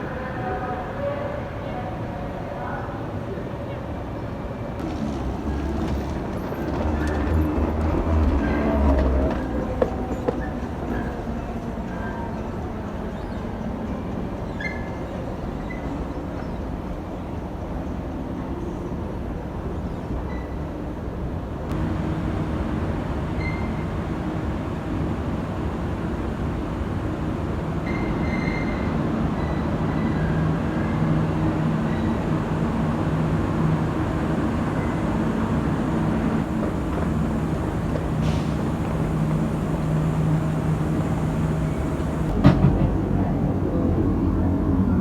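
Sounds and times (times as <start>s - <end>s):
electric train rumble: 4.8s - 45.0s.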